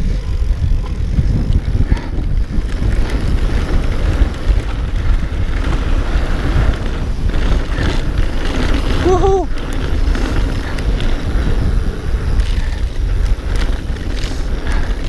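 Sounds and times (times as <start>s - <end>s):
bike knocks and rattles: 0.0s - 15.0s
bike tyres rumbling on gravel: 0.0s - 15.0s
wind buffeting microphone: 0.0s - 15.0s.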